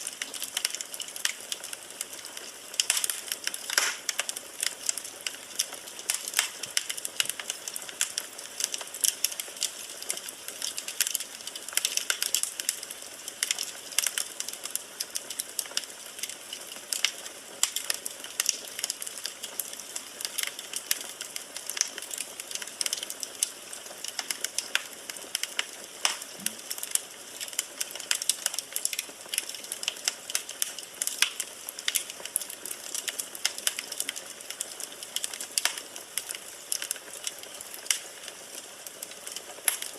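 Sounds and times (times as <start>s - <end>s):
firewood crackling in fireplace: 0.0s - 39.9s.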